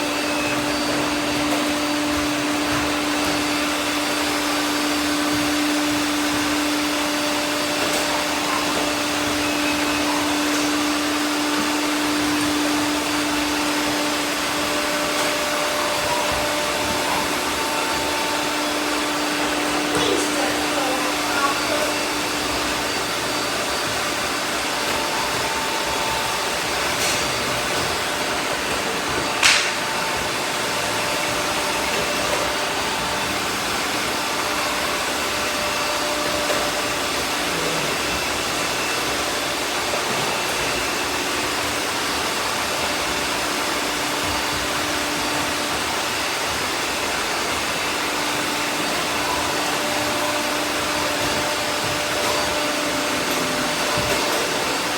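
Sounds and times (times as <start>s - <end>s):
robot vacuums whirring: 0.0s - 54.9s.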